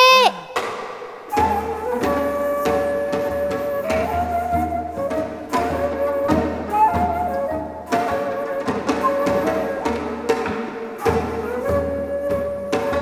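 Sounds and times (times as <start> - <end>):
bamboo flute melody: 0.0 - 13.0
drum strokes: 0.0 - 13.0
traditional instrumental ensemble: 0.0 - 13.0.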